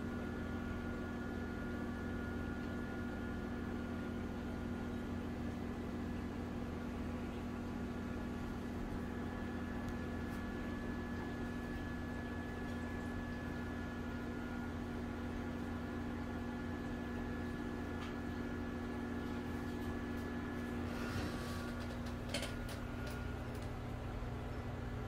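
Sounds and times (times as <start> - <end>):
aquarium pump humming: 0.0 - 25.0.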